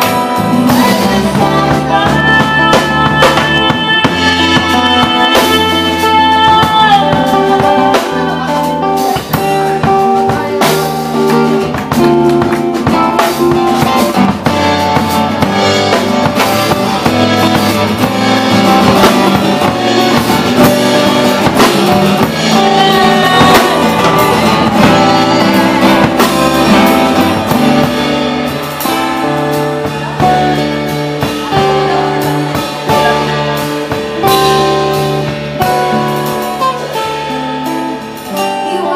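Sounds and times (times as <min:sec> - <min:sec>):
acoustic guitar: 0:00.0 - 0:38.9
drum kit: 0:00.0 - 0:38.9
held melody line: 0:00.0 - 0:38.9.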